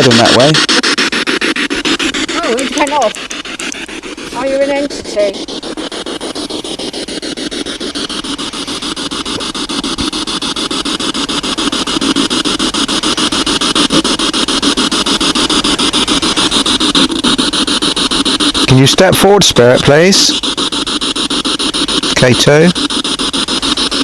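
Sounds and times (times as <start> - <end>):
choppy radio static clicks: 0.0 - 24.0.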